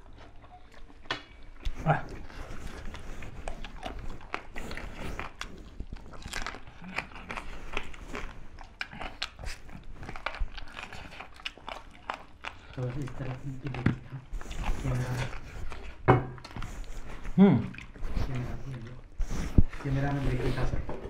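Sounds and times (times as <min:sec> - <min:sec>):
wet chewing: 0:00.0 - 0:21.0.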